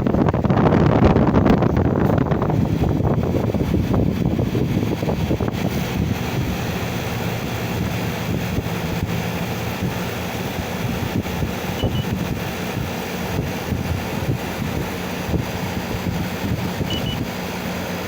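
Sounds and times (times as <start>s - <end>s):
air conditioner fan blowing: 0.0s - 18.0s
compressor humming: 0.0s - 18.0s.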